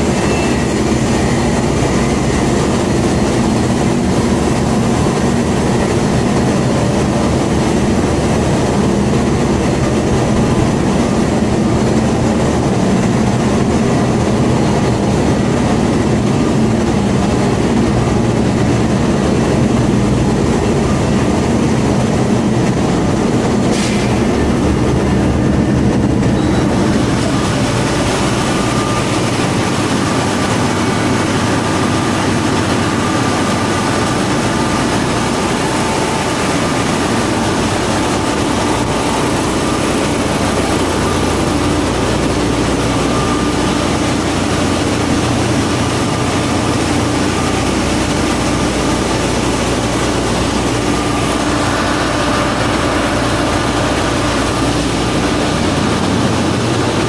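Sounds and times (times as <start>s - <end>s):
engine room machinery din: 0.0s - 57.0s.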